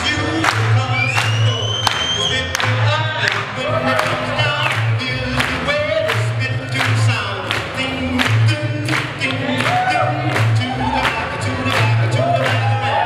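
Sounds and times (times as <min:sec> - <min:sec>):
boogie woogie music with singing: 0:00.0 - 0:13.0.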